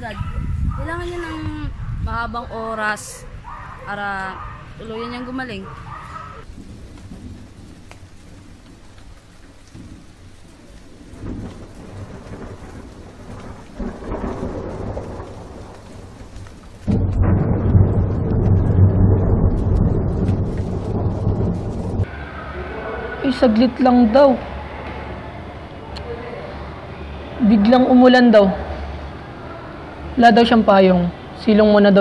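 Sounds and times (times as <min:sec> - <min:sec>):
thunder rumbling: 0:00.0 - 0:32.0
rain falling: 0:03.9 - 0:32.0.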